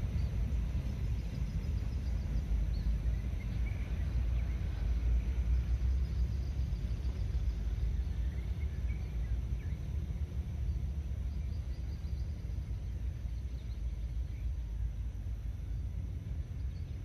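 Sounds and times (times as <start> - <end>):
distant diesel train rumble: 0.0 - 17.0
small birds chirping: 0.0 - 17.0.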